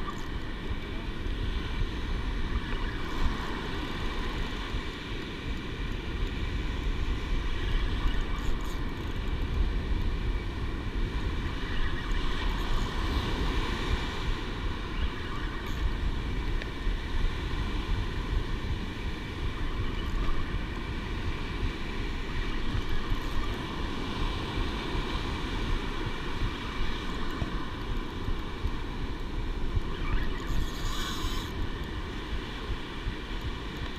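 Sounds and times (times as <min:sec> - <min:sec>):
faint thin whine: 0:00.0 - 0:33.9
wind buffeting microphone: 0:00.0 - 0:33.9.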